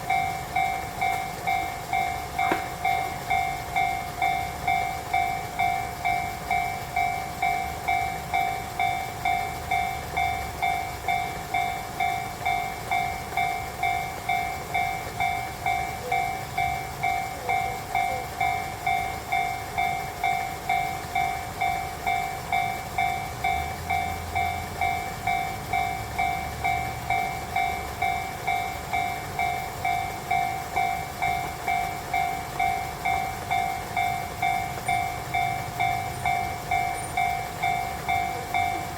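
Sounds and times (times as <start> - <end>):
railroad crossing bell ringing: 0.0 - 38.9.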